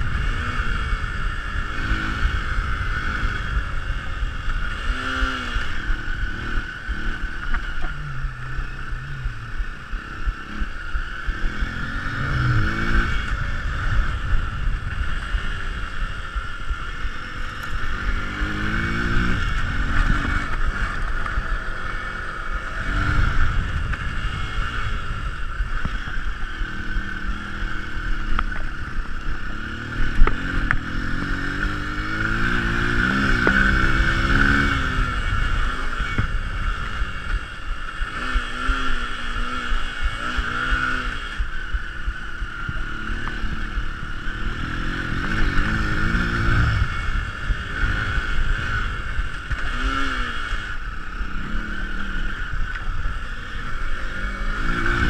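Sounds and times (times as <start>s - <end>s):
motorcycle engine revving: 0.0s - 55.0s
motorcycle rattling: 0.0s - 55.0s.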